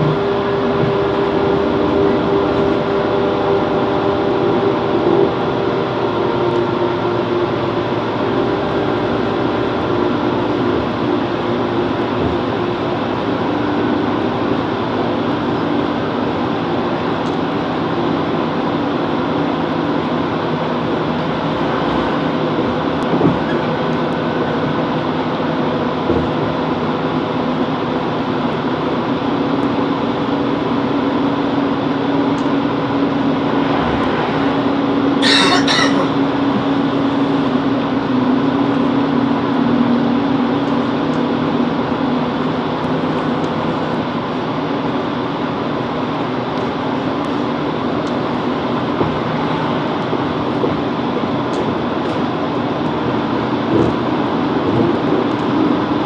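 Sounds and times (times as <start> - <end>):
diesel train engine drone: 0.0 - 56.0
wheels on rail: 0.0 - 56.0.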